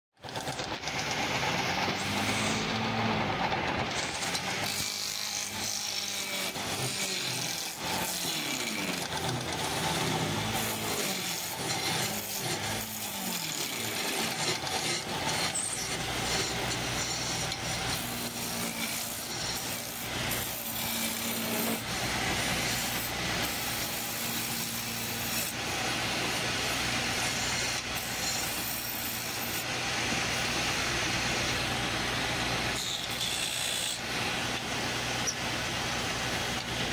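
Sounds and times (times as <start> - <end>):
chisel scraping spinning wood: 0.2 - 36.9
lathe motor hum: 0.2 - 36.9.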